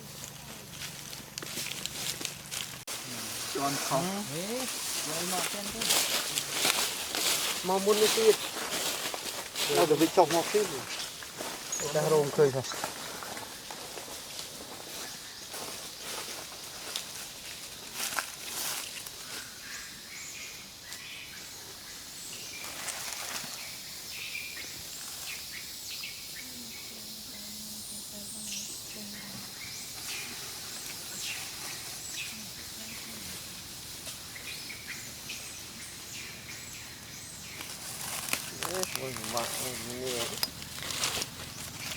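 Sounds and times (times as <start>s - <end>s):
steady high hiss: 0.0s - 41.9s.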